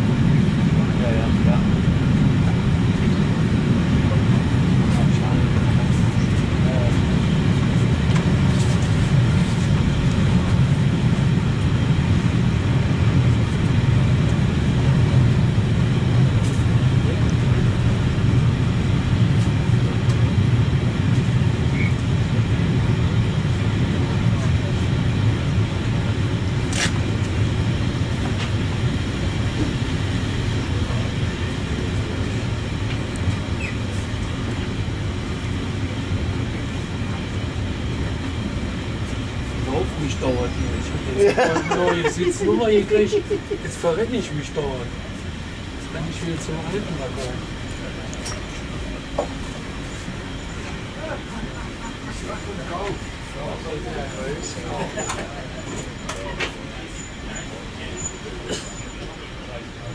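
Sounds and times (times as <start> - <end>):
railway coach rumbling: 0.0 - 59.9.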